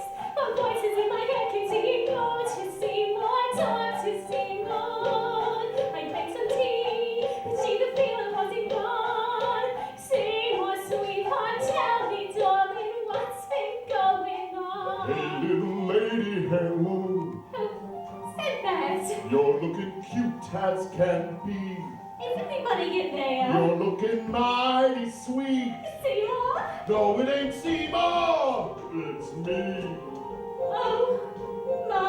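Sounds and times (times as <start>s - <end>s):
woman singing: 0.0s - 16.3s, 17.4s - 27.8s, 30.6s - 32.0s
instrumental accompaniment: 0.0s - 32.0s.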